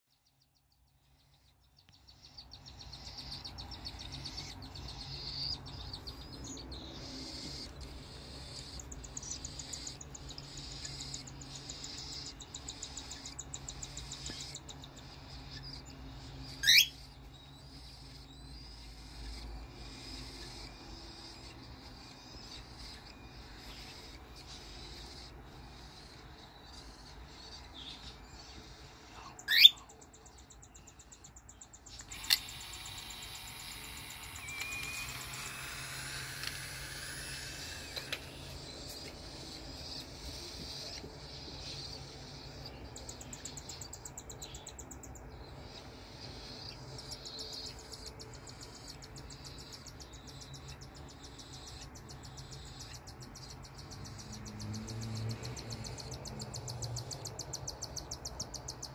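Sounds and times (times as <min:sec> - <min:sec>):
nestlings raspy begging chirps: 0:00.3 - 0:58.9.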